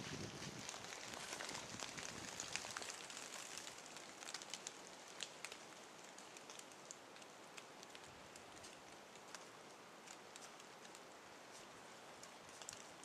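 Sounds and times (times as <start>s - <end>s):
crackles in dry leaves: 0.0s - 13.0s
soft hiss: 0.0s - 13.0s.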